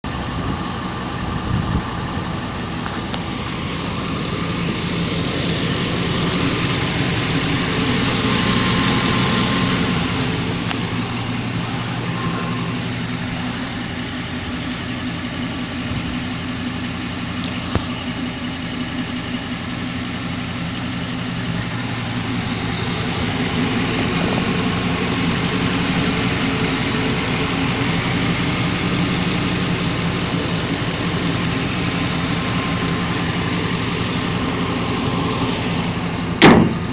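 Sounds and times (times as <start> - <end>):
car engine idling with rapid knock: 0.0 - 36.9.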